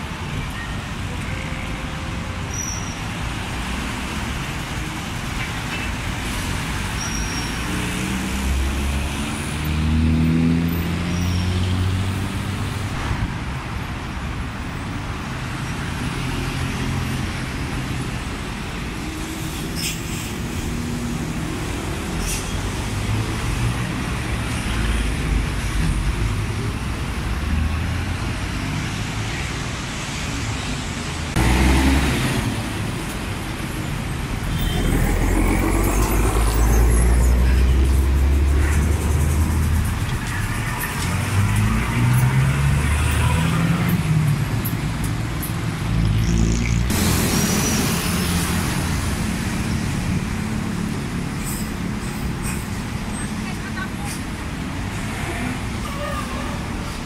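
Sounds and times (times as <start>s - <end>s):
buses accelerating: 0.0s - 57.0s
traffic noise: 0.0s - 57.0s.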